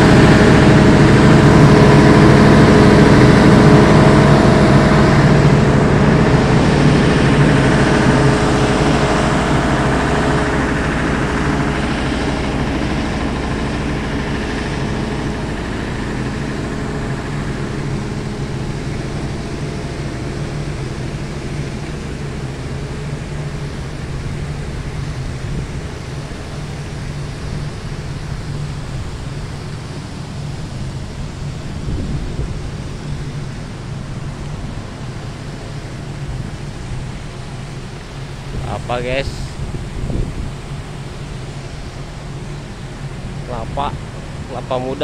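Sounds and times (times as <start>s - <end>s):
generator engine humming: 0.0s - 45.0s.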